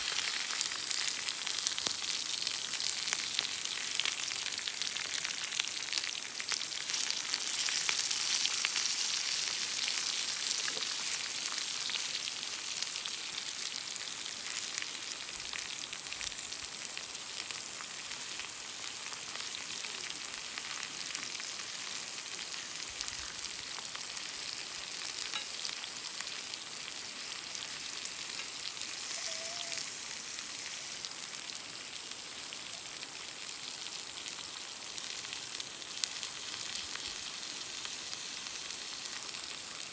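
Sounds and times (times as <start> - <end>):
steak sizzling: 0.0 - 39.9
wood fire crackling: 0.0 - 39.9.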